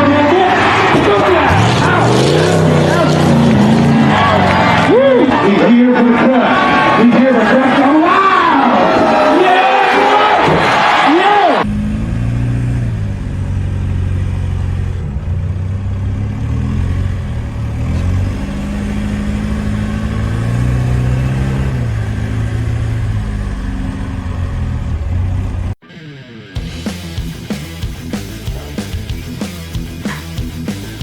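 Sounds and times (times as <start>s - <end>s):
off-road engine revving: 0.0s - 7.8s, 11.6s - 25.8s, 26.6s - 31.0s.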